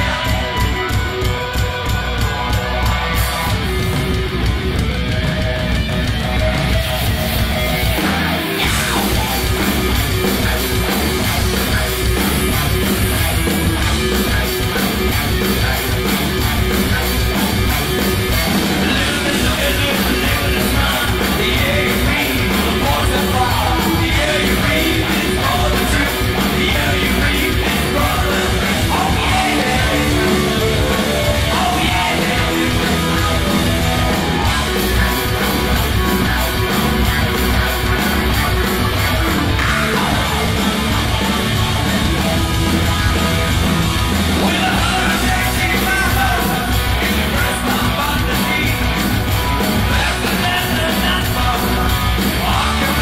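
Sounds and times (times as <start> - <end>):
distorted electric guitars: 0.0 - 53.0
drums: 0.0 - 53.0
rock band playing loud: 0.0 - 53.0.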